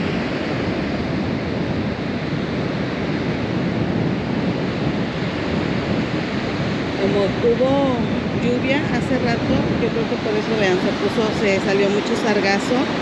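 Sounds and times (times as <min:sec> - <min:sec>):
ocean surf breaking on beach: 0:00.0 - 0:13.0
wind on microphone: 0:00.0 - 0:13.0.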